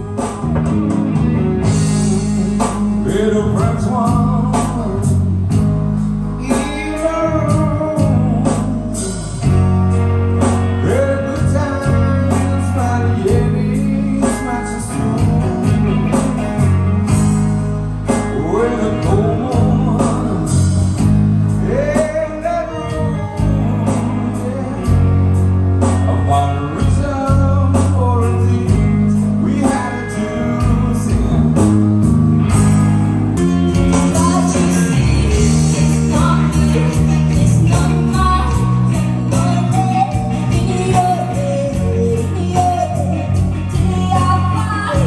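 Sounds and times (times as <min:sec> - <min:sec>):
live band playing a song: 0:00.0 - 0:45.0
person singing: 0:01.6 - 0:05.5, 0:06.4 - 0:09.6, 0:10.7 - 0:16.8, 0:18.1 - 0:21.0, 0:21.6 - 0:31.8, 0:33.9 - 0:45.0.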